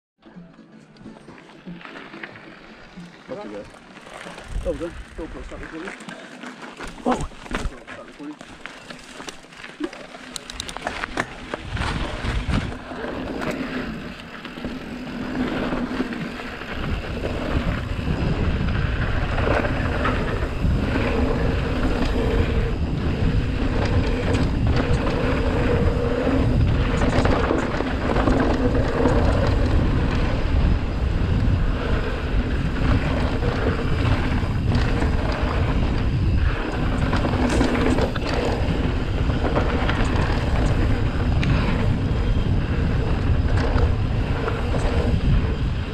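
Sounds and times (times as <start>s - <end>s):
bike tyre rumble: 1.1s - 45.9s
bike knocks and rattles: 3.6s - 45.9s
wind buffeting microphone: 4.3s - 5.9s, 10.4s - 45.9s.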